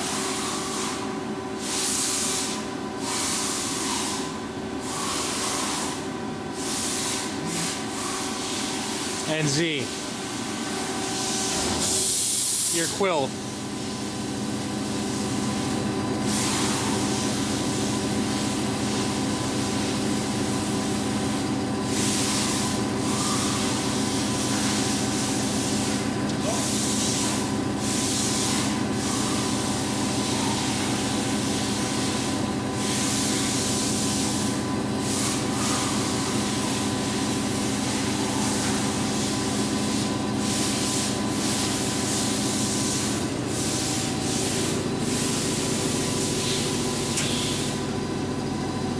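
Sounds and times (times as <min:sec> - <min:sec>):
boring mill drives humming: 0:07.2 - 0:48.9.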